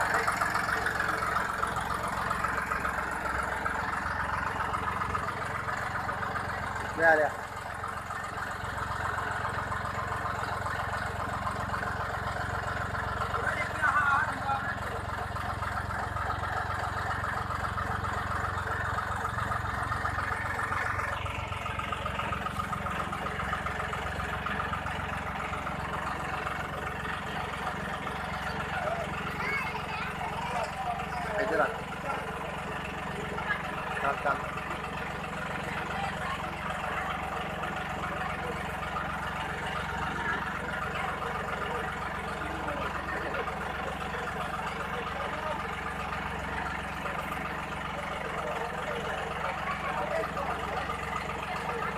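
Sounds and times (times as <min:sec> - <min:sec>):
tractor diesel engine clattering: 0:00.0 - 0:51.9.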